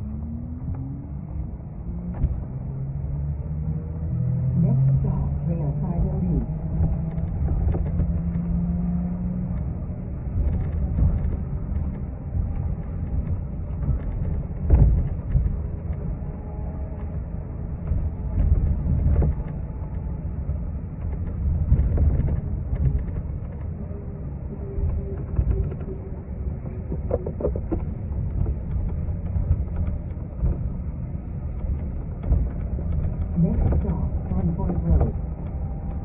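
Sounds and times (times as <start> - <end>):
bus rumbling on road: 0.0 - 36.0.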